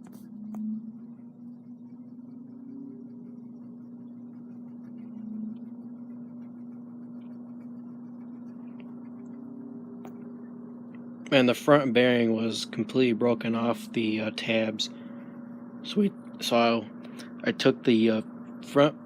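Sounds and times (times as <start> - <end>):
electric fan motor hum: 0.0 - 19.0
fan air rushing: 0.0 - 19.0.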